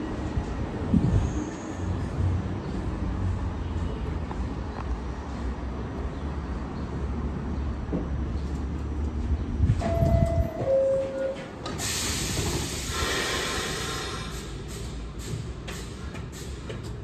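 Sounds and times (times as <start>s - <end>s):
subway train humming: 0.0s - 17.0s.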